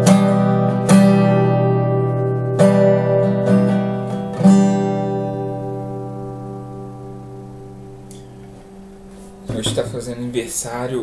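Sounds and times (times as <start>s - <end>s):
acoustic guitar chord ringing: 0.0s - 10.6s.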